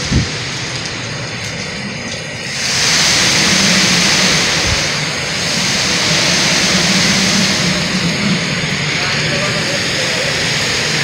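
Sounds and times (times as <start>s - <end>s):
strong wind gusting: 0.0s - 11.0s.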